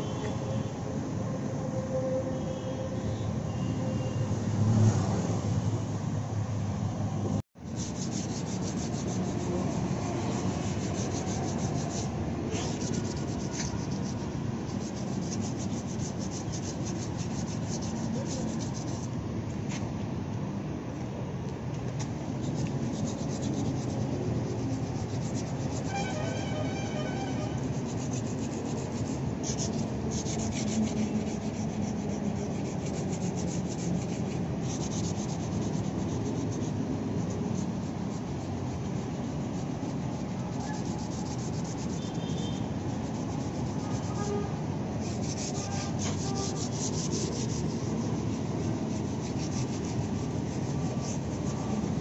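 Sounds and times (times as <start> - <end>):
sandpaper scratching on plastic: 7.6 - 19.9, 21.9 - 52.0.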